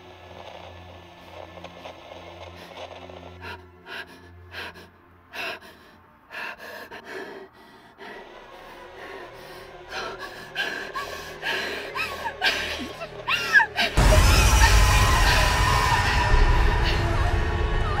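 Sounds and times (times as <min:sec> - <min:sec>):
low drone: 0:00.0 - 0:18.0.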